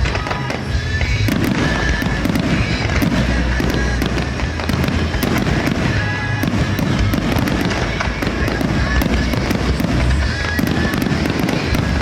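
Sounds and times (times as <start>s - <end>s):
firework shells bursting: 0.0s - 12.0s
sharp crackling: 0.0s - 12.0s.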